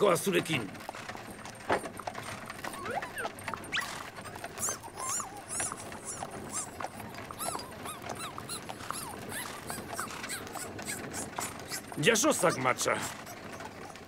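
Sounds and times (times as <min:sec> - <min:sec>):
cartoon rat squeaking: 0:01.8 - 0:14.0.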